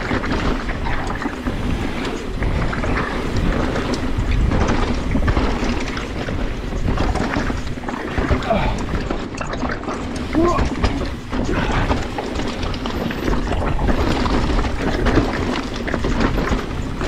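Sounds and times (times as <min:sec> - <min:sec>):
mountain bike on rough trail: 0:00.0 - 0:17.0
tyres knocking and clattering: 0:00.0 - 0:17.0
wind buffeting microphone: 0:00.0 - 0:17.0.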